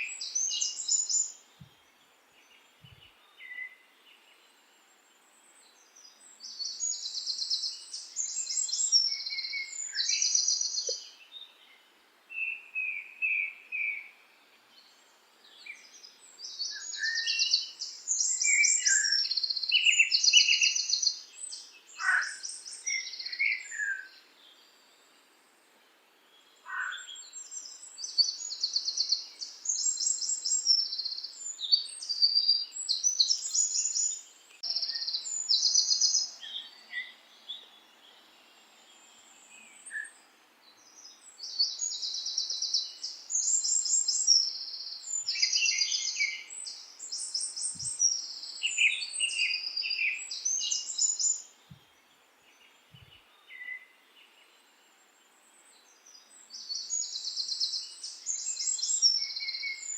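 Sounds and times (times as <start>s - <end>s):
small birds trilling and chirping: 0.0s - 59.9s.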